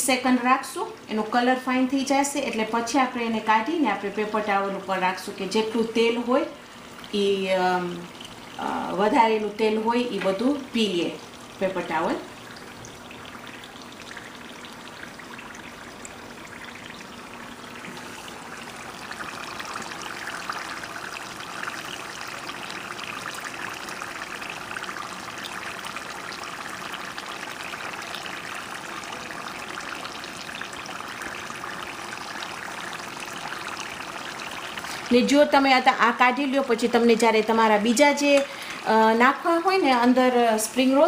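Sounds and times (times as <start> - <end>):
oil sizzling while deep-frying: 0.0 - 41.0.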